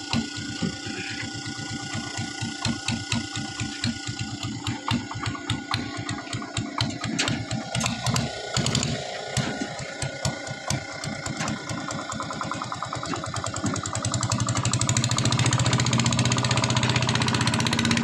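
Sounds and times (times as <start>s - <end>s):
small boat engine thudding: 0.0s - 18.0s.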